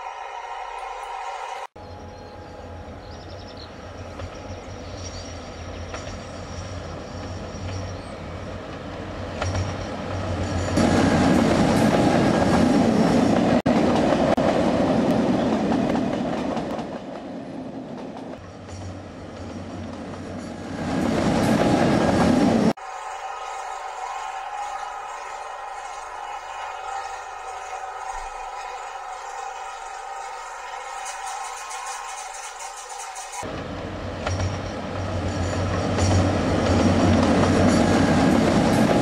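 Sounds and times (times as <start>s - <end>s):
wheels rattling on rails: 3.9s - 39.0s.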